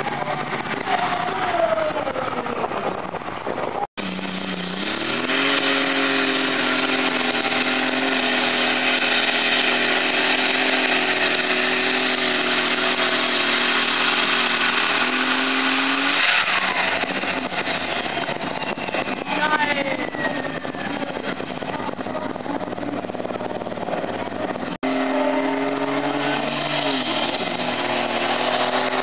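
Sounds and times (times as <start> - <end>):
tractor engine at full throttle: 0.0 - 29.0.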